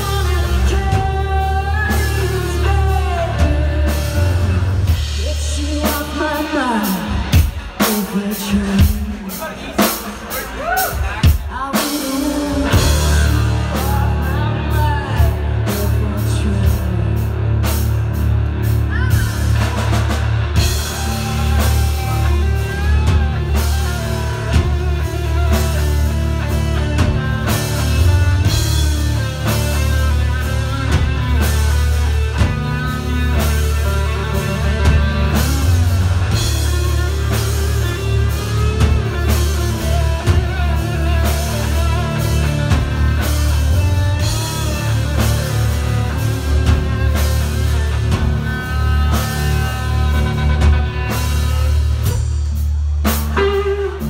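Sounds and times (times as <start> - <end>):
electric guitar lead: 0.0 - 54.0
rock band playing: 0.0 - 54.0
rock drum beat: 0.0 - 54.0.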